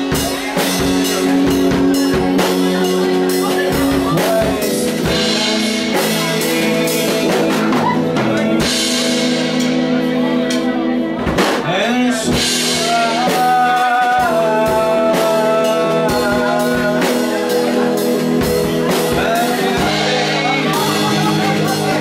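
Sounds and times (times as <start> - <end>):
guitar: 0.0 - 22.0
man singing: 0.0 - 22.0.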